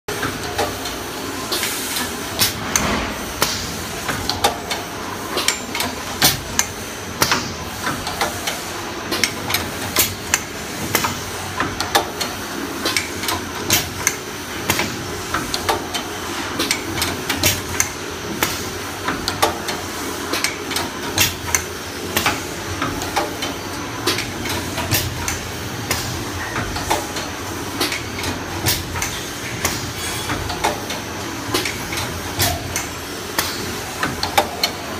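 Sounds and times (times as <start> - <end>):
steady mechanical hum: 0.1 - 34.9.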